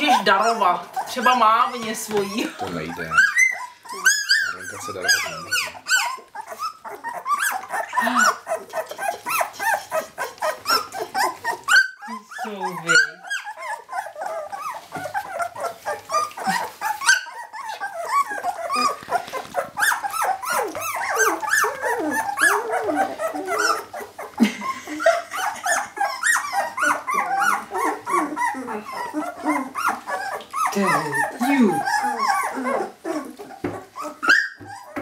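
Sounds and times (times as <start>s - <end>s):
puppies whining and yelping: 0.0s - 35.0s.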